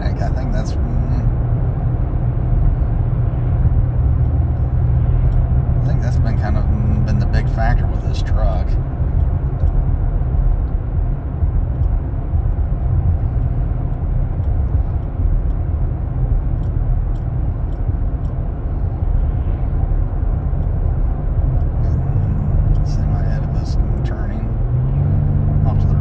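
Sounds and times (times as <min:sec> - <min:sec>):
engine and road noise rumble: 0:00.0 - 0:26.0.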